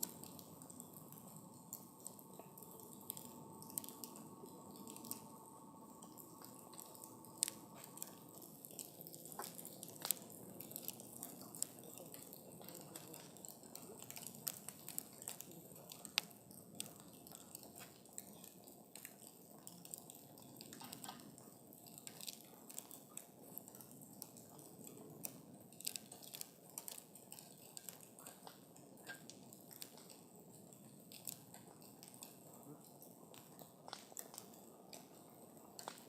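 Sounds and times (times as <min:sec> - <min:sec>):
campfire crackling and popping: 0:00.0 - 0:36.0
soft rustle of flames: 0:00.0 - 0:36.0.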